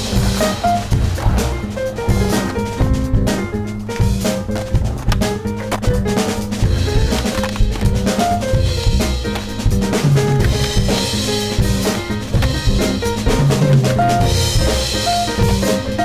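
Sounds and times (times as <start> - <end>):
bass line: 0.0 - 16.0
drum kit snare and bass drum: 0.0 - 16.0
jazz music: 0.0 - 16.0.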